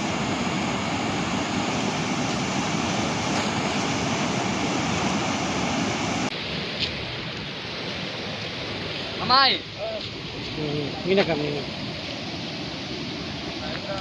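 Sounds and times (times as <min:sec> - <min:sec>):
water rushing through sluices: 0:00.0 - 0:14.0.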